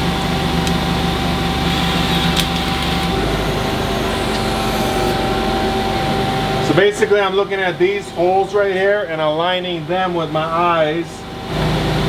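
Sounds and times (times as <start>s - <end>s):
machine shop equipment humming: 0.0s - 10.4s.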